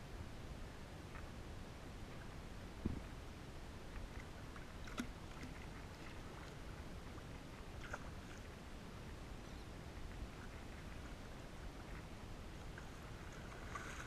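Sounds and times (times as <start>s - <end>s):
wind and water against boat hull: 0.0s - 14.0s.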